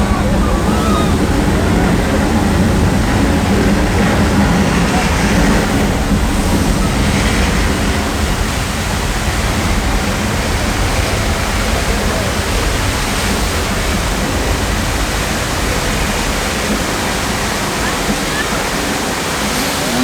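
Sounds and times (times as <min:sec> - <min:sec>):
torrent of water rushing: 0:00.0 - 0:20.0.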